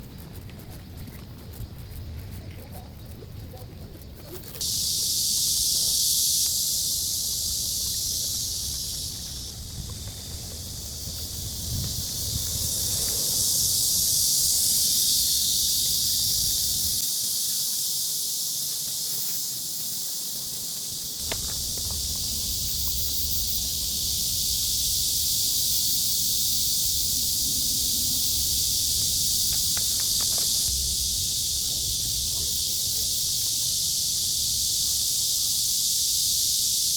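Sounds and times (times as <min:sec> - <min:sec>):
cicadas buzzing chorus: 0:03.0 - 0:36.9.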